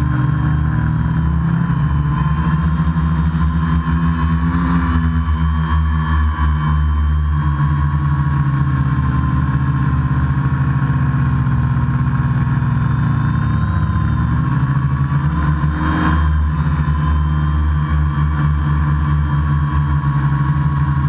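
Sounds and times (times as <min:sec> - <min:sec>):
drone buzzing hum: 0:00.0 - 0:21.0.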